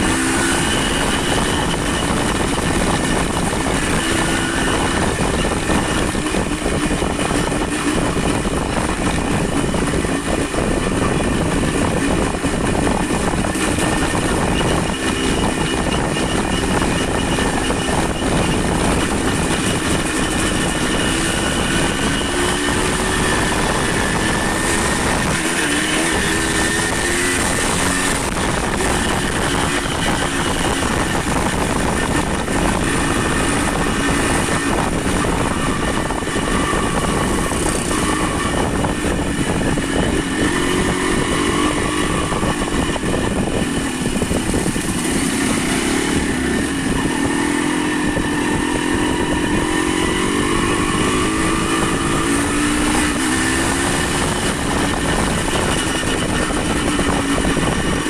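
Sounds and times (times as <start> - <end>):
vehicle engine running: 0.0 - 58.0
wind and road noise: 0.0 - 58.0.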